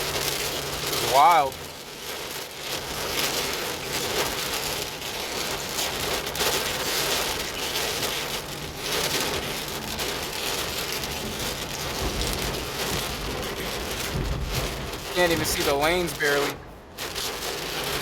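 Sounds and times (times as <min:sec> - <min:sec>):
heavy rain on car: 0:00.0 - 0:18.0.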